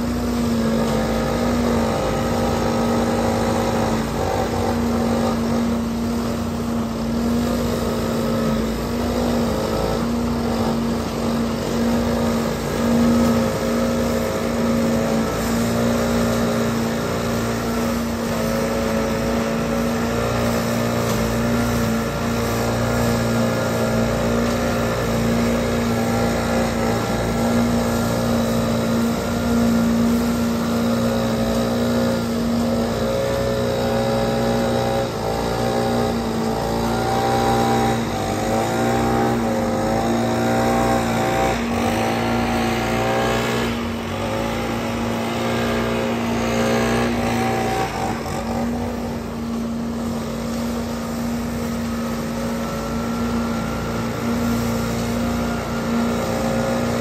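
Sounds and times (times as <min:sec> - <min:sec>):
backpack leaf blower revving: 0:00.0 - 0:57.0
leaf vacuum engine hum: 0:00.0 - 0:57.0.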